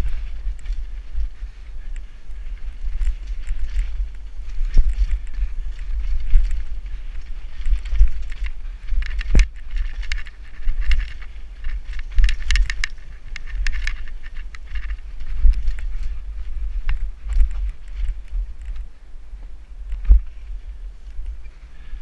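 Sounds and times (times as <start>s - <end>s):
bike rattling over rough trail: 0.0s - 22.0s
wind buffeting microphone: 0.0s - 22.0s.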